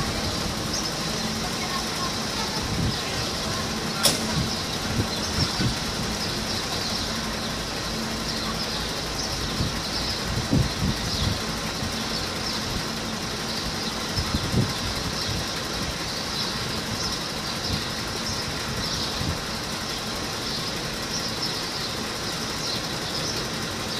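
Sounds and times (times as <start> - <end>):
truck diesel engine idling: 0.0 - 23.9.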